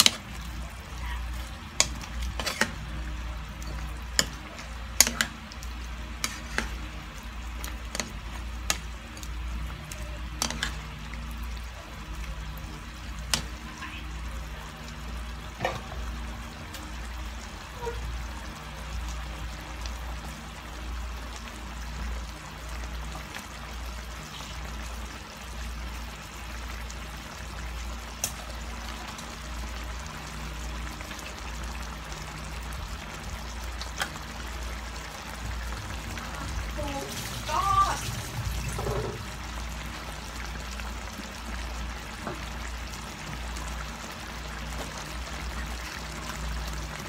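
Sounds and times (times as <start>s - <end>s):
stew simmering and bubbling: 0.0s - 47.0s.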